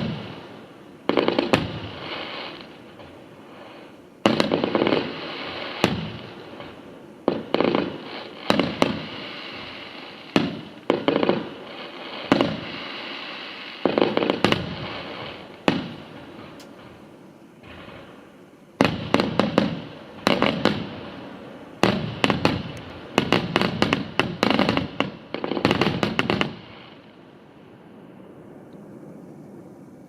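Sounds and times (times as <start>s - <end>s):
fireworks bursting with bangs: 0.0s - 27.4s.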